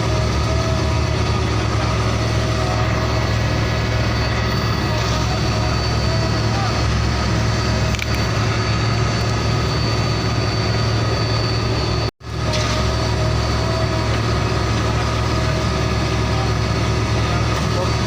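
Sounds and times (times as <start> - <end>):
heavy truck engine idling: 0.0 - 18.0.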